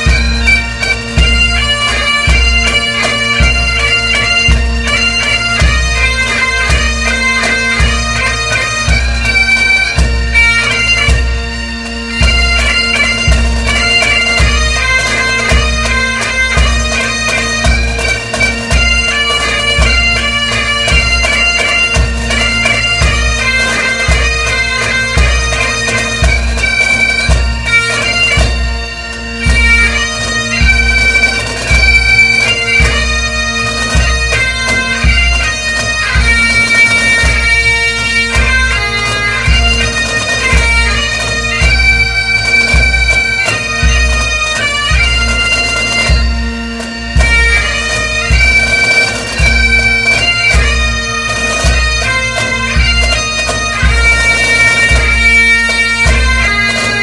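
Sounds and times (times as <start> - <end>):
bagpipe drones and melody: 0.0 - 57.0.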